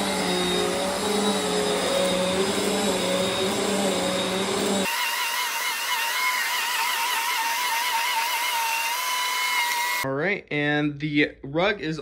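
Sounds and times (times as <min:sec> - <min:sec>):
vacuum cleaner motor hum: 0:00.0 - 0:10.0.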